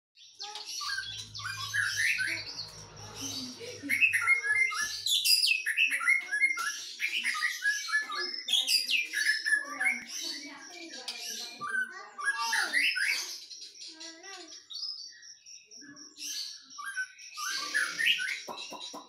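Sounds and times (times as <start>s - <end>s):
songbird singing chirps and whistles: 0.2s - 19.0s.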